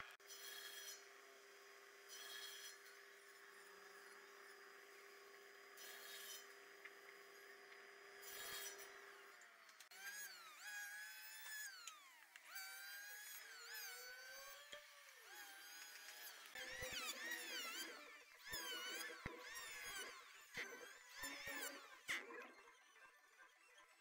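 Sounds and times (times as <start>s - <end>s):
electric hand planer shaving board: 0.0s - 23.8s
table saw cutting: 0.0s - 24.0s.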